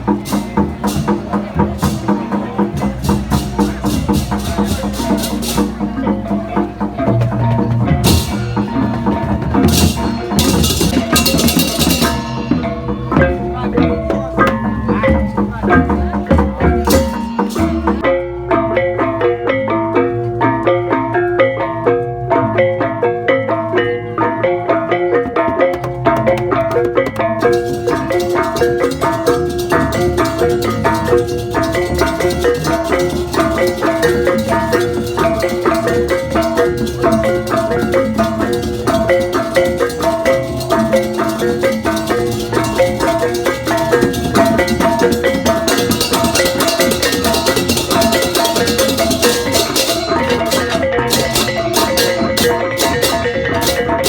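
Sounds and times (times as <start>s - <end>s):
drums: 0.0s - 54.0s
gamelan gong-chime and metallophone: 0.0s - 54.0s.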